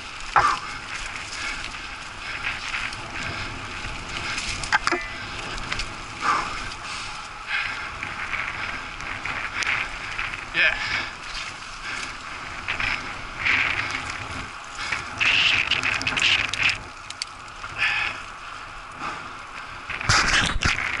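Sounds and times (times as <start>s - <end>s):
bike rattling over bumps: 0.0s - 21.0s
bike tyres on dirt: 0.0s - 21.0s.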